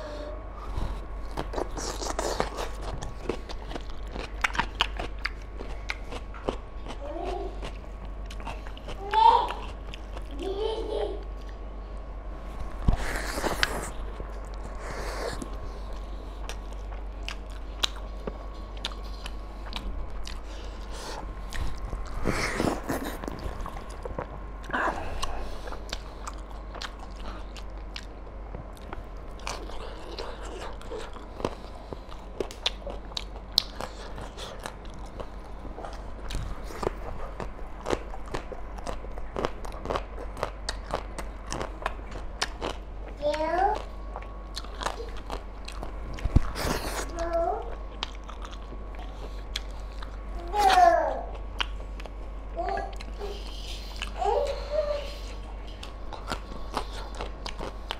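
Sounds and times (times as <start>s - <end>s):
faint steady hum: 0.0s - 57.9s
man chewing food: 0.6s - 10.4s, 11.2s - 54.2s, 55.0s - 57.9s.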